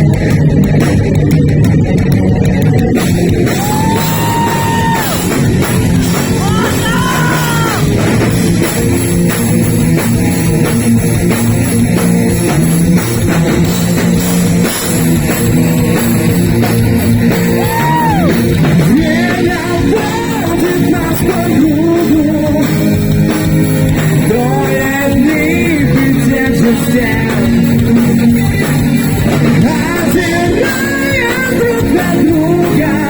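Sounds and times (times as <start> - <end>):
heavy metal band playing: 0.0 - 33.0.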